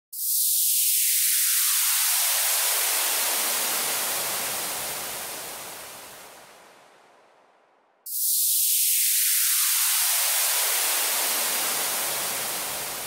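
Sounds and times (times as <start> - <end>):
synthesized white-noise sweep: 0.2 - 7.0, 8.1 - 13.0.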